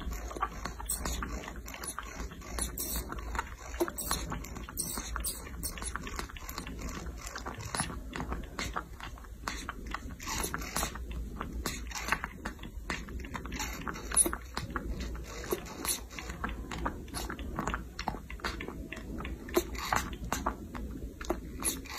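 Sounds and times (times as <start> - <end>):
baby monkey sucking bottle: 0.0 - 21.9.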